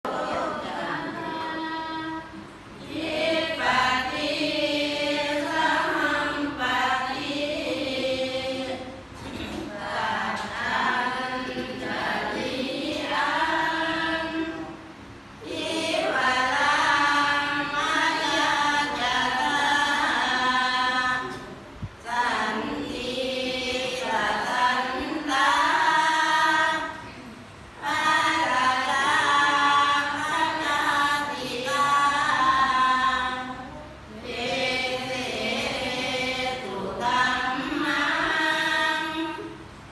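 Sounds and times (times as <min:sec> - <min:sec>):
voices chanting in unison: 0:00.0 - 0:14.8, 0:15.4 - 0:27.2, 0:27.8 - 0:39.6.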